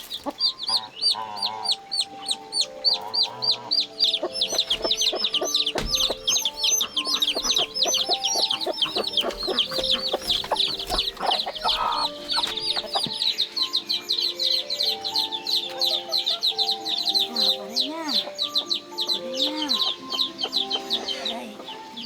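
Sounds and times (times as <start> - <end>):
birds chirping: 0.0 - 22.0
music with long held notes: 0.0 - 22.0.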